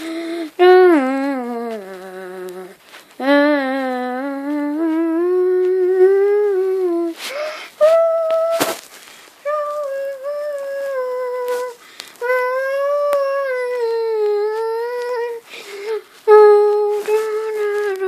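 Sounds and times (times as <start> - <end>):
person humming slow tune: 0.0 - 8.8, 9.4 - 18.0.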